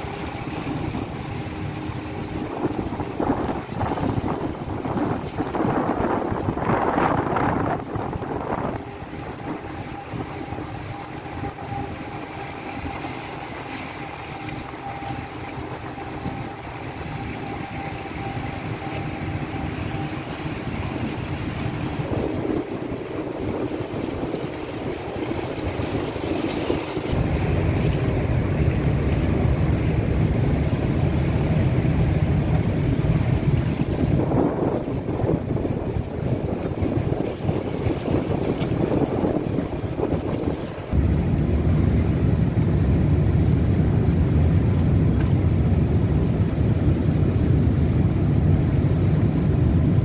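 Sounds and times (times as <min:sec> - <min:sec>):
heavy low rumble: 0:00.0 - 0:50.0
ship engines humming: 0:00.0 - 0:50.0
water washing along hull: 0:00.0 - 0:50.0.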